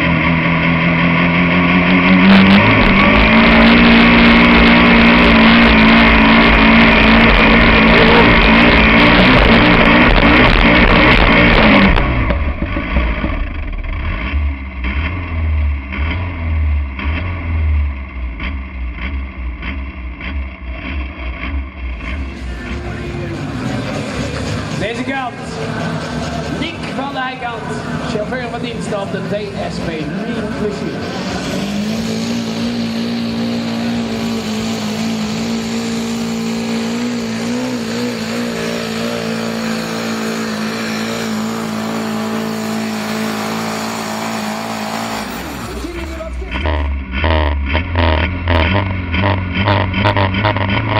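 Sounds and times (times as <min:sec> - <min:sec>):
diesel tractor engine rumbling: 0:00.0 - 0:50.9.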